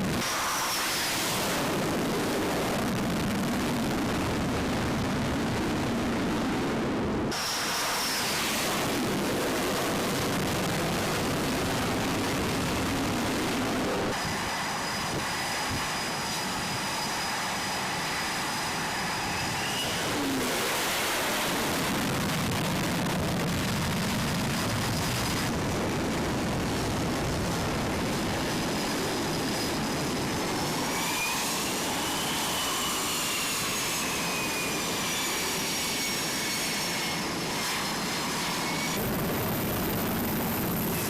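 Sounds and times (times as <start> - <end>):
high whine: 0.0 - 41.0
jet engines rushing: 0.0 - 41.0.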